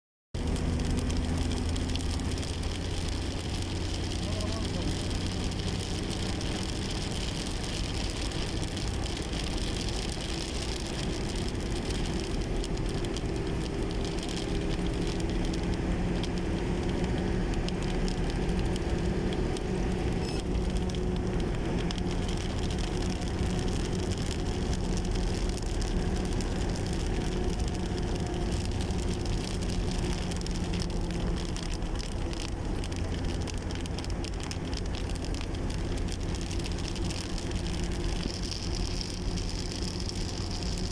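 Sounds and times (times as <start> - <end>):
continuous rushing noise: 0.4 - 40.9
engine hum: 0.4 - 40.9.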